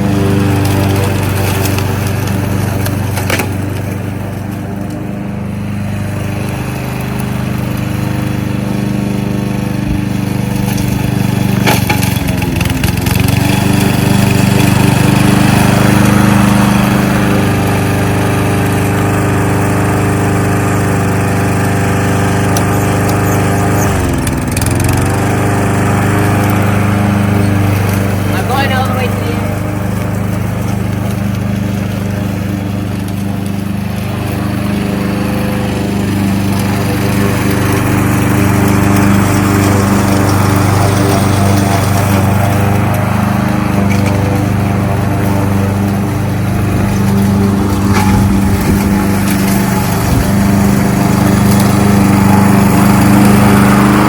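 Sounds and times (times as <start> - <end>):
lawnmower engine running: 0.0 - 54.0.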